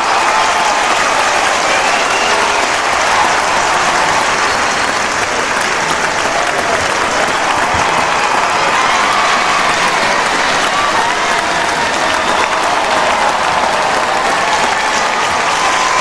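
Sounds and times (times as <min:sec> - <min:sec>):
crowd cheering: 0:00.0 - 0:16.0
crowd clapping: 0:00.0 - 0:16.0.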